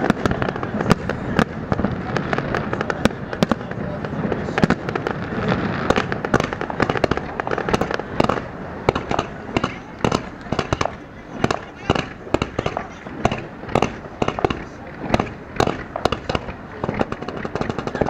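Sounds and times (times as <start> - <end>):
fireworks bangs and crackles: 0.0 - 18.0
rumble of distant explosions: 0.0 - 18.0.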